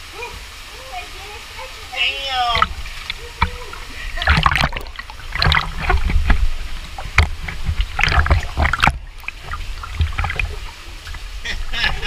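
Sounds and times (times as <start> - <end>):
water sloshing from wading: 0.9 - 12.0.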